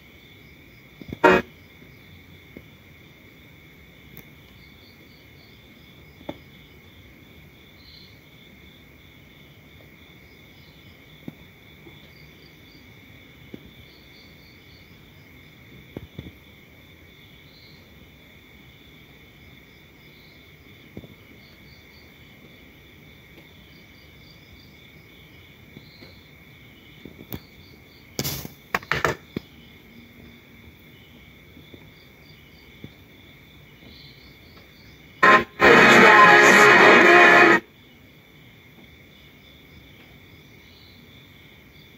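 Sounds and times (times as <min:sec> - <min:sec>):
crickets and insects chirping: 0:00.0 - 0:36.3, 0:37.0 - 0:41.9.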